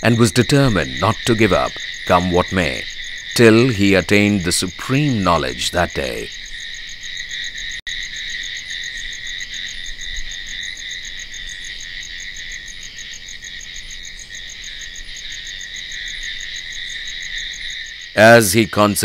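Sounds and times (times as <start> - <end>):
crickets trilling and chirping: 0.0 - 19.0.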